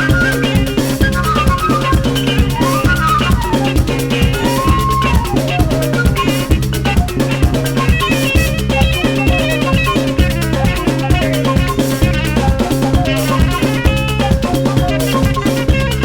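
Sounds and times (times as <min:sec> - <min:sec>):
upbeat music with drum beat: 0:00.0 - 0:16.0.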